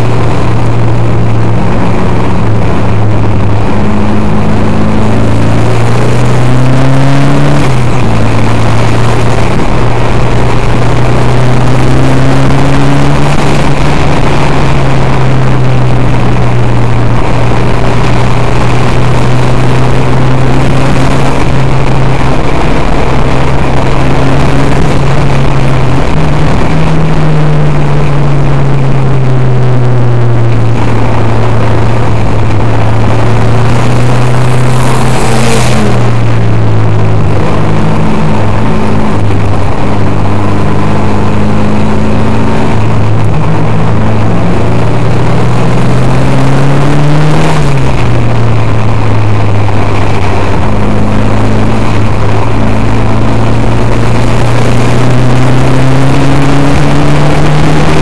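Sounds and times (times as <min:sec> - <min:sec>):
race car engine from inside cabin: 0:00.0 - 0:58.0.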